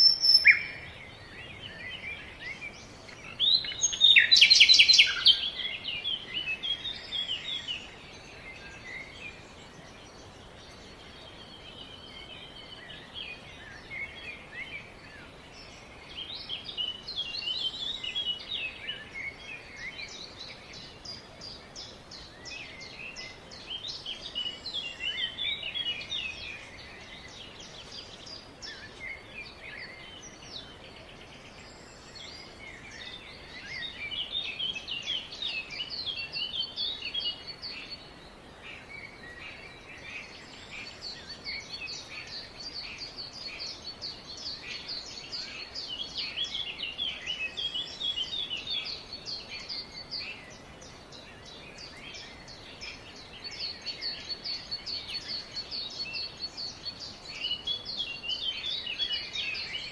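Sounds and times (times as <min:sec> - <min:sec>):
faint background hiss: 0:00.0 - 0:59.9
songbirds chirping and trilling: 0:00.0 - 0:59.9.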